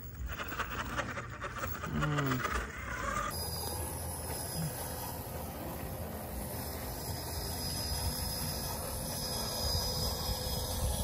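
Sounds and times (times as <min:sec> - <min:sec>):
faint high motor whine: 0:00.0 - 0:11.0.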